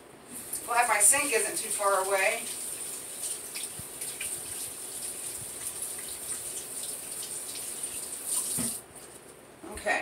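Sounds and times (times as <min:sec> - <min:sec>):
sink faucet running: 0:00.4 - 0:08.8.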